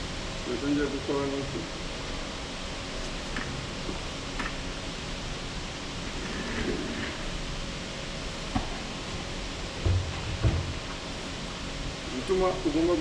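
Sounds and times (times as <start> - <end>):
workshop room hiss: 0.0 - 13.0.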